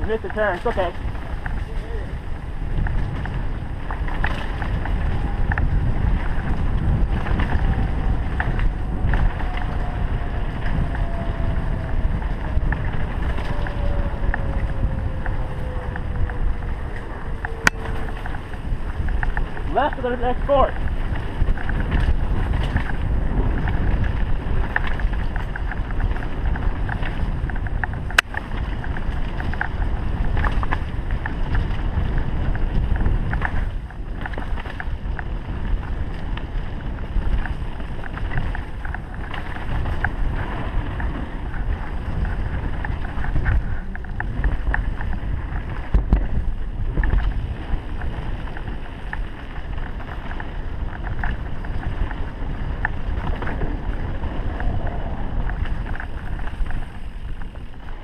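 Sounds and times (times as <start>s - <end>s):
mountain bike rattling on trail: 0.0s - 58.0s
wind on microphone: 0.0s - 58.0s.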